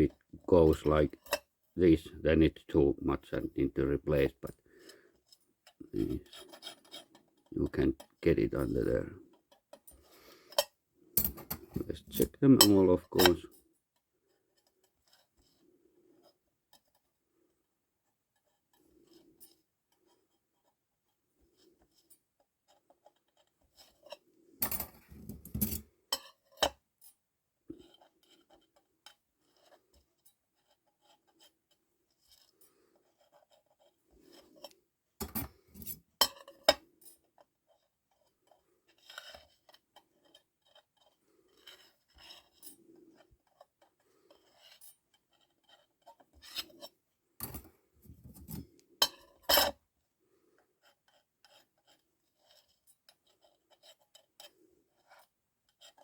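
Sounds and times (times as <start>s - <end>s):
small scrapes: 4.7s - 56.0s.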